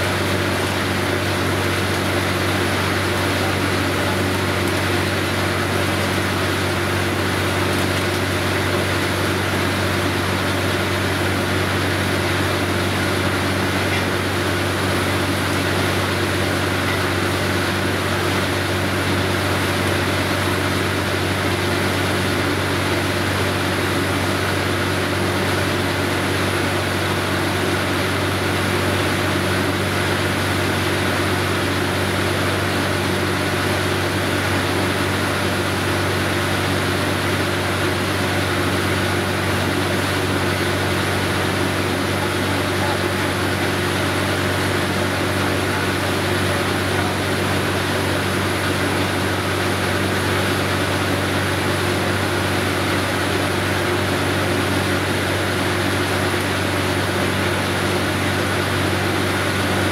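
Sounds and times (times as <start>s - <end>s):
air compressor droning: 0.0s - 59.9s.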